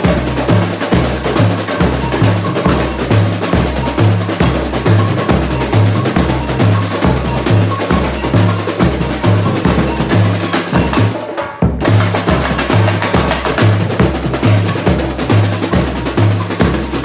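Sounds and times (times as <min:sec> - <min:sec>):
deep bass drums pounding: 0:00.0 - 0:17.0
fast snare drum clatter: 0:00.0 - 0:17.0.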